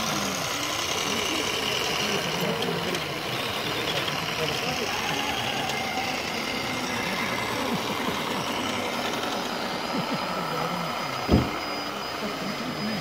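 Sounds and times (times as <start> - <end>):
model excavator mechanical whirring: 0.0 - 13.0.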